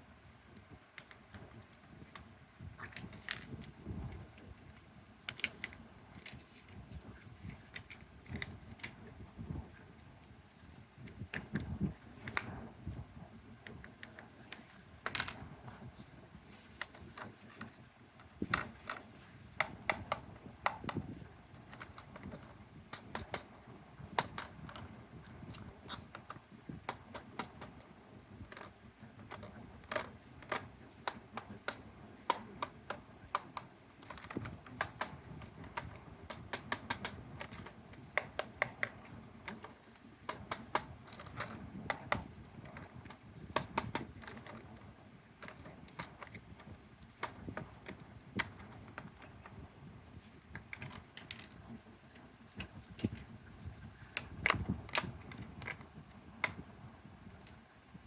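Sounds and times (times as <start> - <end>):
toy cars and packaging clicking: 1.0 - 9.1, 13.6 - 15.4, 16.8 - 49.6, 50.5 - 53.4, 54.2 - 56.7.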